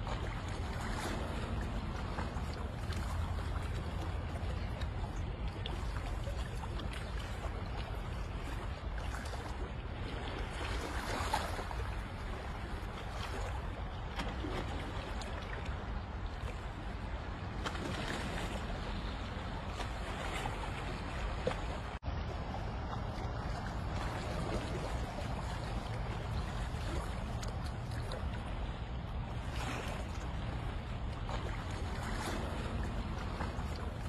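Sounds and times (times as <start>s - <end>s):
water lapping against rocks: 0.0s - 34.0s
wind rumble on microphone: 0.0s - 34.0s.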